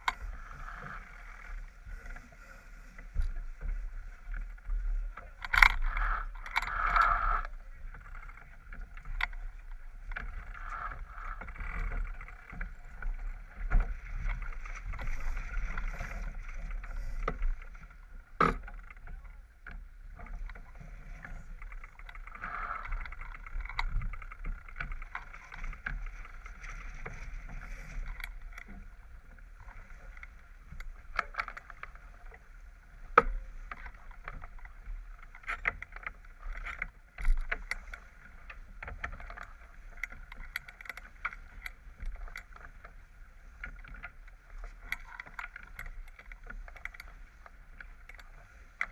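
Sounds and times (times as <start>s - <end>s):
water rushing along a hull: 0.0s - 48.9s.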